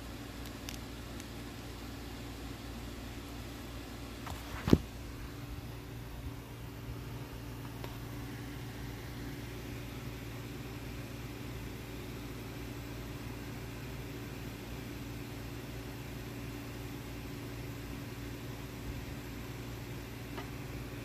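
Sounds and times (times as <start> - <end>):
low machine hum with hiss: 0.0 - 21.0.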